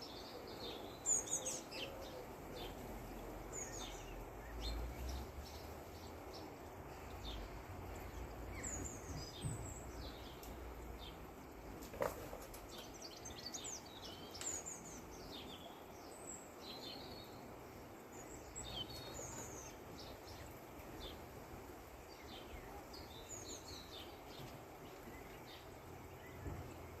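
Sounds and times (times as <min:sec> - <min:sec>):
faint outdoor hiss: 0:00.0 - 0:27.0
small birds chirping: 0:00.0 - 0:27.0.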